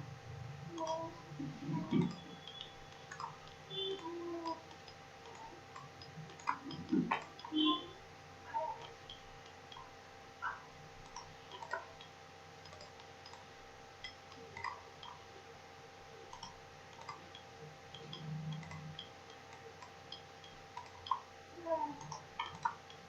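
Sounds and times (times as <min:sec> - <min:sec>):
faint steady hum: 0:00.0 - 0:23.0
computer mouse clicking: 0:00.8 - 0:07.8, 0:08.6 - 0:15.3, 0:16.3 - 0:21.3, 0:22.0 - 0:23.0.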